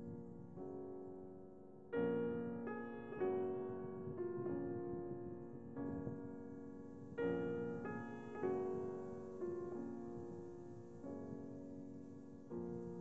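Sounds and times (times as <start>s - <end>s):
slow gentle piano: 0.0s - 13.0s.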